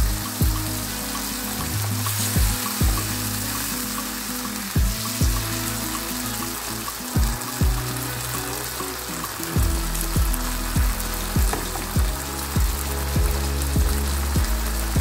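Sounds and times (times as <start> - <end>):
background music with kick drums: 0.0 - 15.0
sauce sizzling in a frying pan: 0.0 - 15.0.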